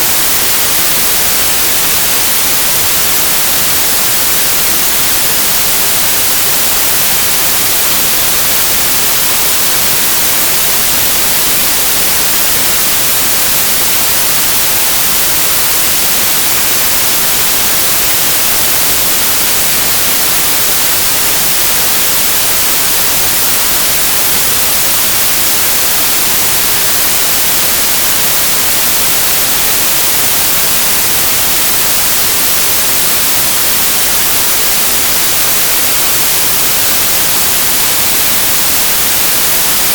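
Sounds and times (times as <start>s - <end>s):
steady white-noise hiss: 0.0s - 39.9s.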